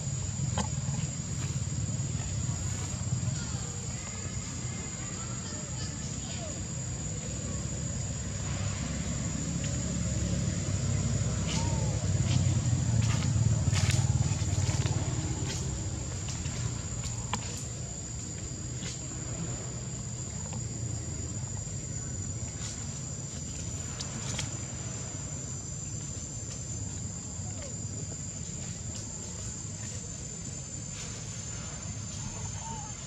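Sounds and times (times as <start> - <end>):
high-pitched insect drone: 0.0 - 33.0
low outdoor rumble: 0.0 - 33.0.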